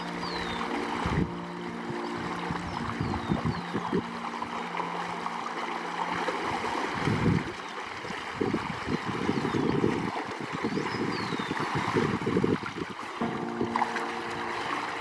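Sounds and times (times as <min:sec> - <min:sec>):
flowing water: 0:00.0 - 0:15.0
water splashing around wading man: 0:00.0 - 0:15.0.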